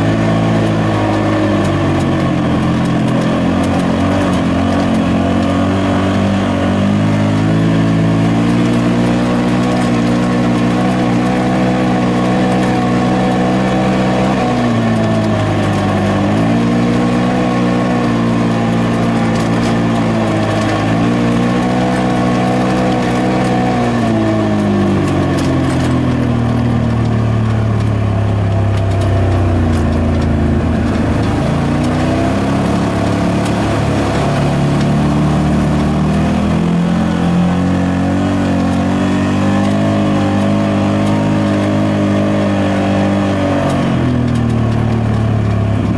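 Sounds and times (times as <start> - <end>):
utility vehicle engine revving: 0.0 - 45.9.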